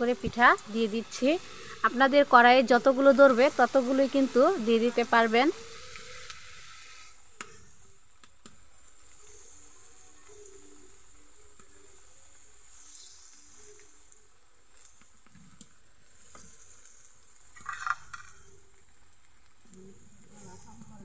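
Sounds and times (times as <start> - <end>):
dough sizzling in hot oil: 0.0 - 21.0.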